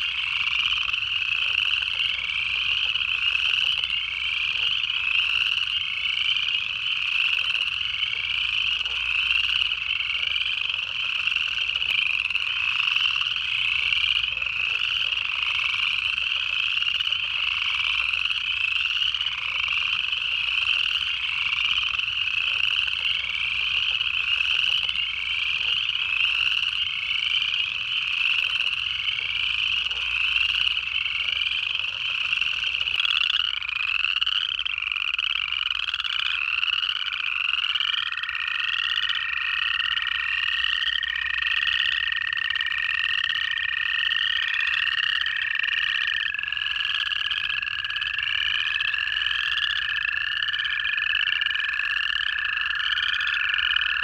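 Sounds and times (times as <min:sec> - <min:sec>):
chorus frogs trilling: 0:00.0 - 0:54.0.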